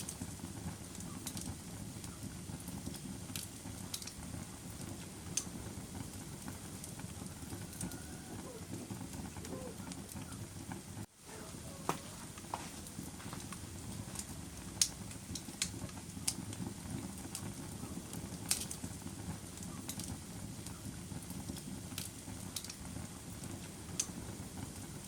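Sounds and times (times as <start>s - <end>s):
fire crackling and popping: 0.0s - 25.0s
fire flames rumbling: 0.0s - 25.0s.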